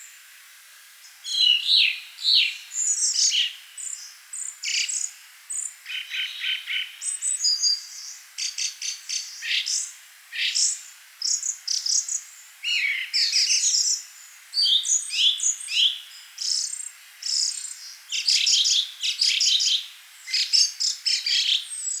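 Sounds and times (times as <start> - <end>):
songbirds singing: 1.0 - 22.0.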